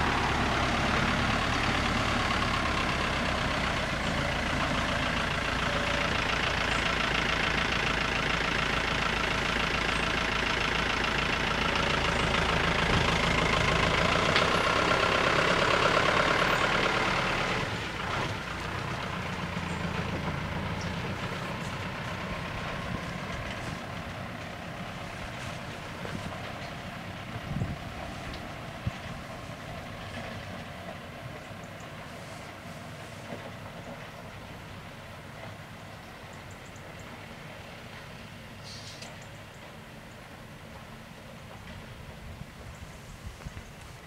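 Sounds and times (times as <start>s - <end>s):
heavy engine idling: 0.0s - 44.0s.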